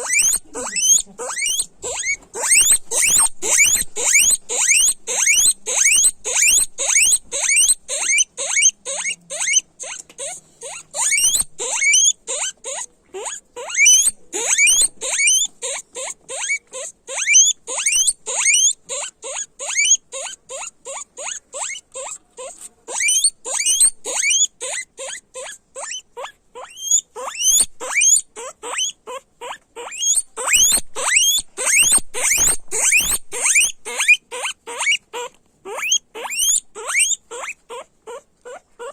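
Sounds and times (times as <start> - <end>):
guinea pigs squealing: 0.0 - 38.9.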